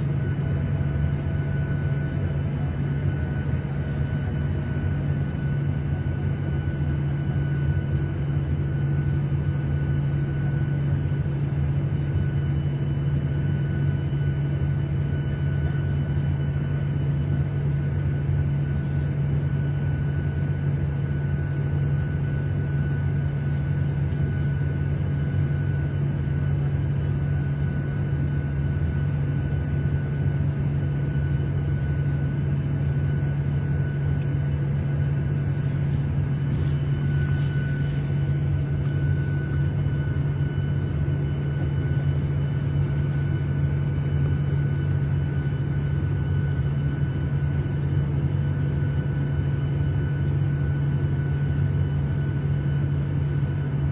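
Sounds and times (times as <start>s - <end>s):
airliner cabin engine rumble: 0.0s - 53.9s
faint constant hums: 0.0s - 53.9s.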